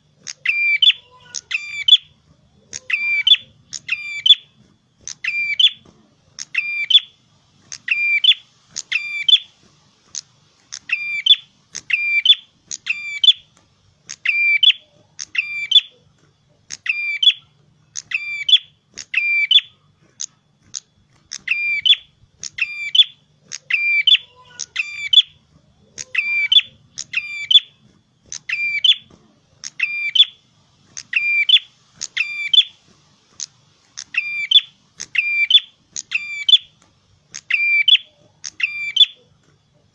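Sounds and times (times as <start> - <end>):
songbird chirping: 0.2 - 20.3, 21.3 - 32.8, 33.4 - 39.3.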